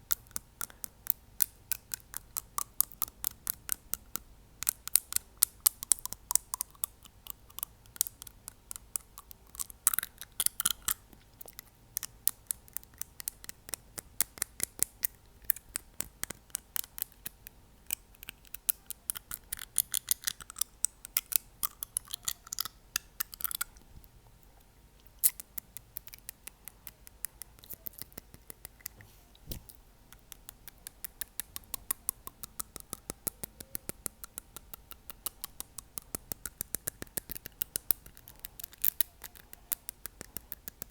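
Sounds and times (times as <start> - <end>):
fingernail tapping on teeth: 0.1 - 23.7, 25.2 - 40.9.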